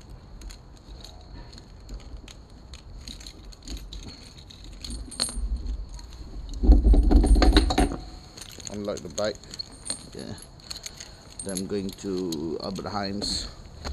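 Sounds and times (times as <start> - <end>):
keys and chain lock jangling: 0.0 - 13.7.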